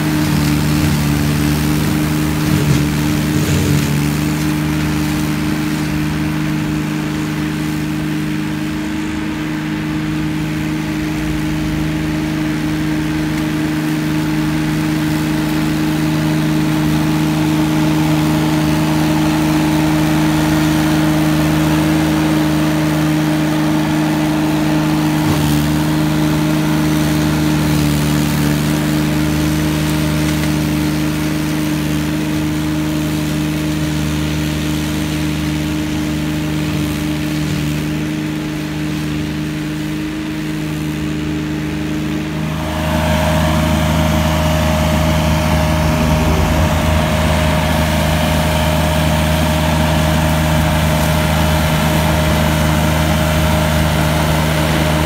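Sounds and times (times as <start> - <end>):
steady higher whine: 0.0 - 36.6, 38.0 - 55.0
flail mower engine drone: 0.0 - 55.0.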